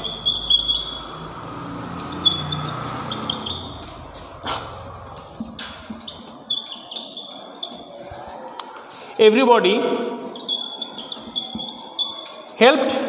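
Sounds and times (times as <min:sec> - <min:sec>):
whiteboard marker squeaking: 0:00.0 - 0:08.5, 0:10.2 - 0:12.6.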